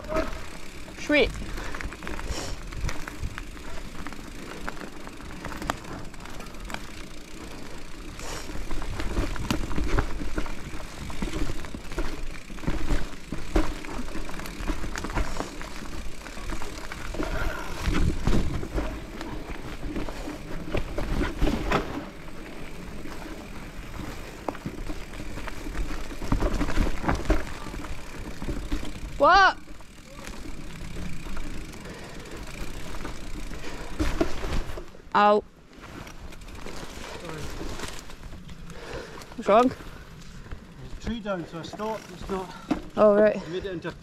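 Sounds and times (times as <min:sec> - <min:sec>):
bike rattling and knocking: 0:00.0 - 0:44.0
bike tyres rumbling over trail: 0:00.0 - 0:44.0.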